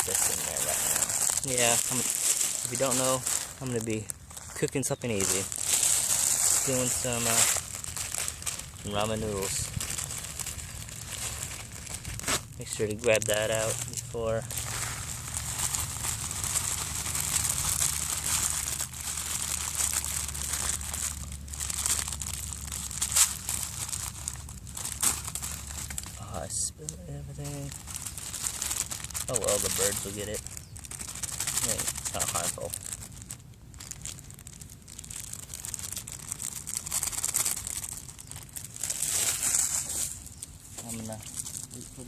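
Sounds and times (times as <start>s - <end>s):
plastic packet crinkling: 0.0s - 42.0s.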